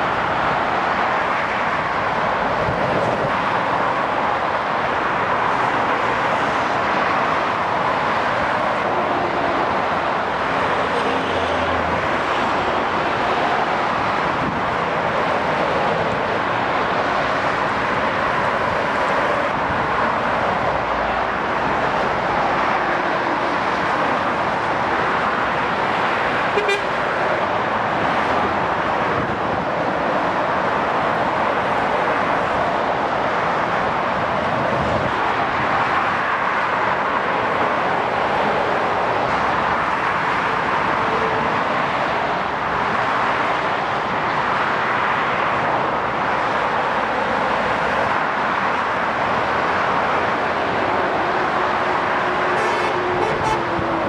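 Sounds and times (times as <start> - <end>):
motorway traffic passing: 0.0 - 54.0.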